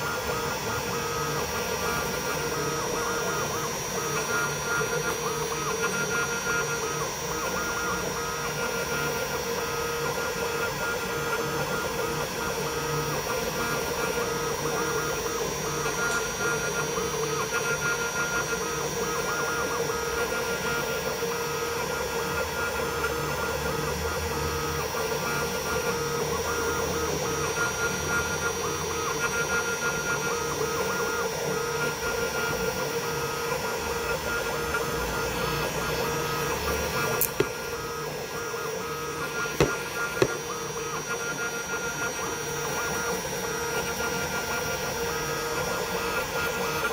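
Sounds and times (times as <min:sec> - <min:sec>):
milling machine spindle whine: 0:00.0 - 0:46.9.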